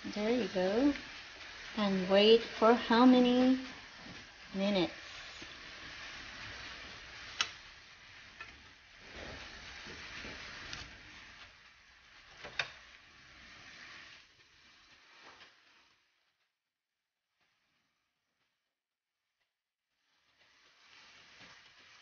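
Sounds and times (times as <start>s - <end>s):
steak sizzling in a frying pan: 0.0s - 16.1s, 20.1s - 22.0s.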